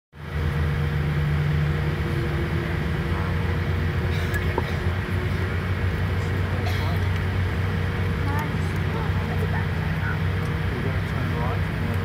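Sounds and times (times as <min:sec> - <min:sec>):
aircraft cabin hum: 0:00.2 - 0:12.0.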